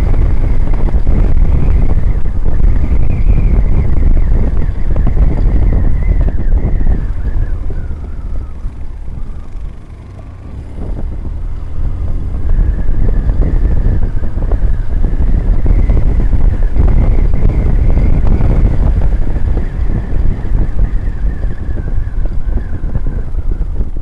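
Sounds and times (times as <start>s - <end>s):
motorcycle engine rumble: 0.0s - 24.0s
wind buffeting microphone: 0.0s - 24.0s.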